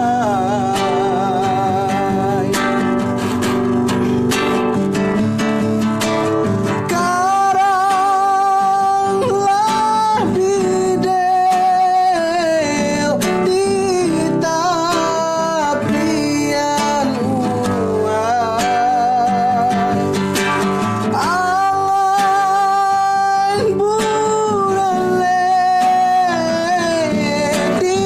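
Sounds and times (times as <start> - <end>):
person singing: 0.0 - 28.0
strummed acoustic guitar: 0.0 - 28.0.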